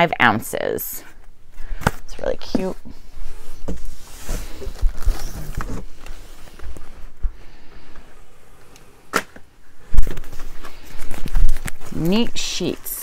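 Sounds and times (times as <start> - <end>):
boxed goods rustling and clattering: 0.0 - 13.0.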